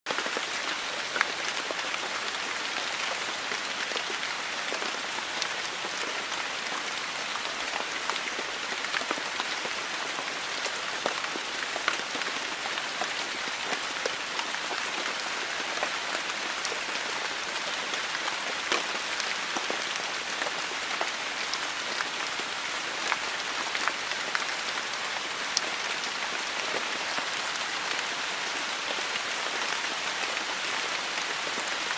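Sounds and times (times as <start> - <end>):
raindrops hitting a surface: 0.1 - 31.9
steady rain hiss: 0.2 - 31.9.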